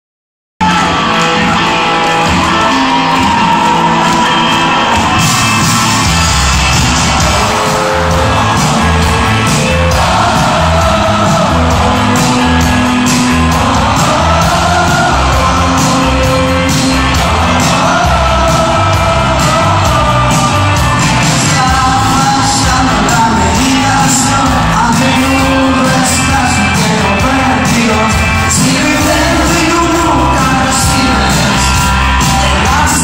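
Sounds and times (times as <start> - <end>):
drums steady beat: 0.6 - 33.0
electric guitars: 0.6 - 33.0
voices singing and shouting: 0.6 - 33.0.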